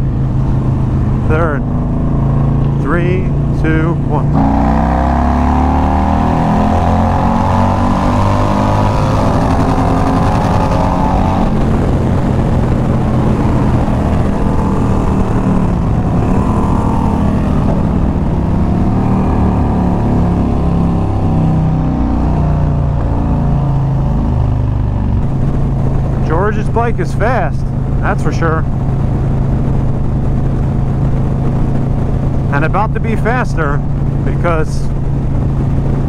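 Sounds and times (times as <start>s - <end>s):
motorcycle engine accelerating: 0.0s - 36.0s
wind rush: 0.0s - 36.0s.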